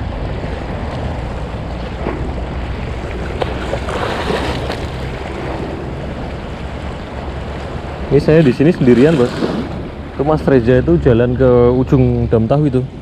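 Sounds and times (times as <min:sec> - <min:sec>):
waves lapping against breakwater: 0:00.0 - 0:11.5
wind on microphone: 0:00.0 - 0:12.3
wave splashing: 0:00.0 - 0:13.0.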